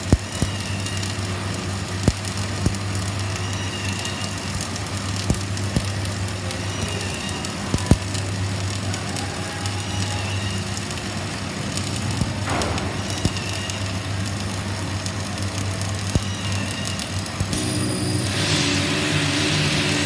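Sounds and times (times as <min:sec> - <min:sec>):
welding arc crackling: 0:00.0 - 0:20.0.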